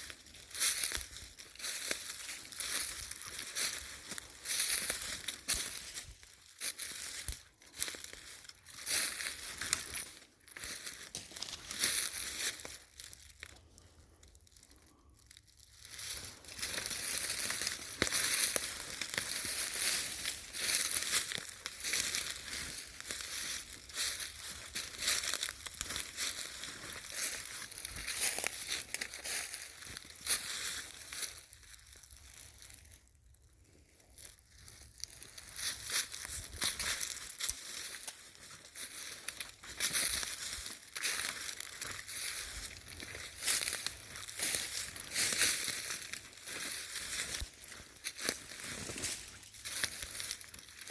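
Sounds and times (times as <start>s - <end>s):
footsteps on dry leaves: 0.0s - 13.9s, 14.5s - 33.1s, 34.1s - 50.9s.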